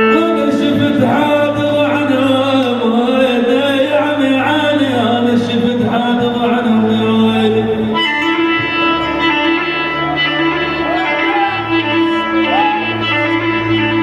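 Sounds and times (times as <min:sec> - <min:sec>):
instrumental party music: 0:00.0 - 0:14.0.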